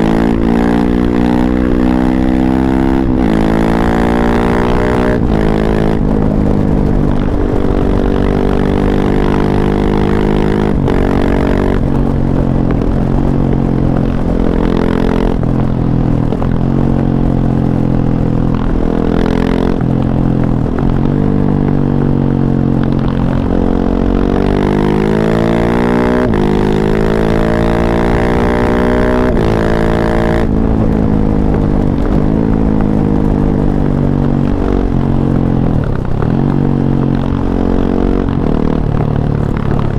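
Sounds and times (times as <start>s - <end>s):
motorcycle engine revving and shifting: 0.0s - 39.9s.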